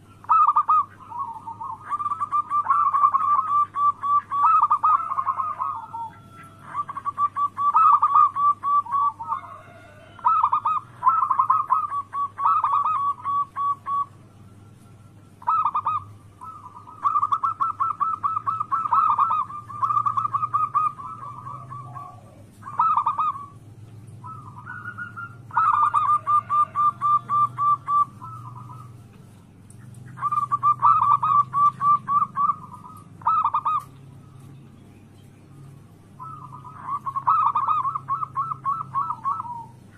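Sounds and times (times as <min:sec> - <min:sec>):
doves cooing: 0:00.0 - 0:39.9
steady low hum: 0:00.0 - 0:39.9.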